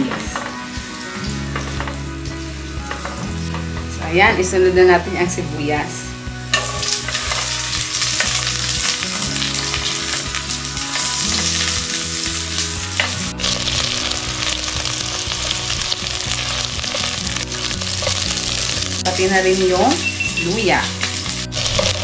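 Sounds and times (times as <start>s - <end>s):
onions sizzling in oil: 0.0s - 5.2s, 5.9s - 22.0s.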